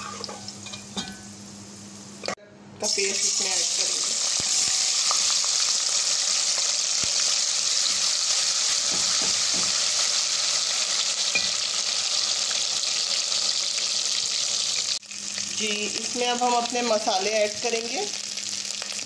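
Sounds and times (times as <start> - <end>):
paste sizzling in hot oil: 3.0 - 19.0.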